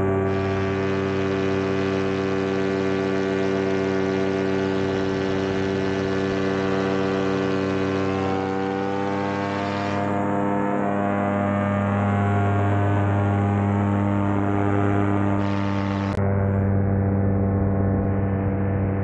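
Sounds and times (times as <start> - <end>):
paramotor engine drone: 0.0 - 19.0.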